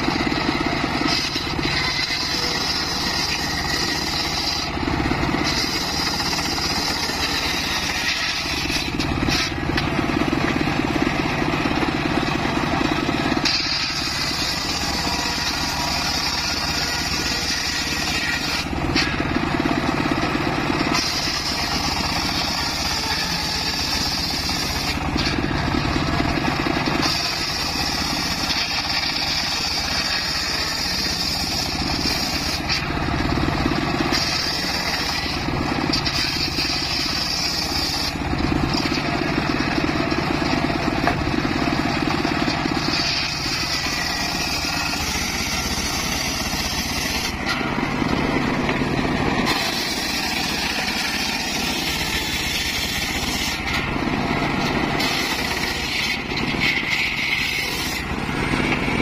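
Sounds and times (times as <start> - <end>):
engine running: 0.0 - 59.0
saw blade cutting wood: 0.0 - 59.0.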